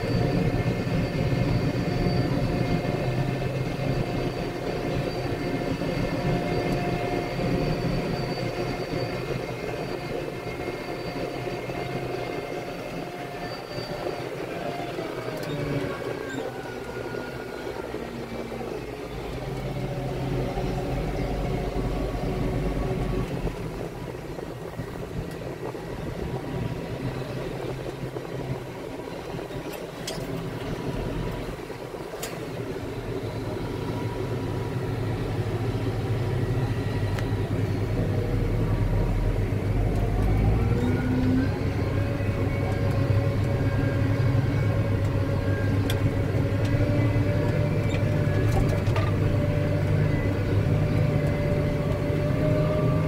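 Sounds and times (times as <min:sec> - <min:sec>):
tractor engine drone: 0:00.0 - 0:53.0.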